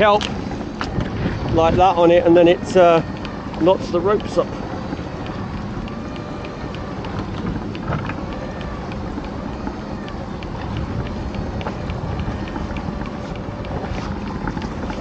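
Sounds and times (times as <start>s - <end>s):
boat motor and winch running: 0.0s - 15.0s
choppy water: 0.0s - 15.0s
light regular clicking: 0.0s - 15.0s
wind: 0.0s - 15.0s.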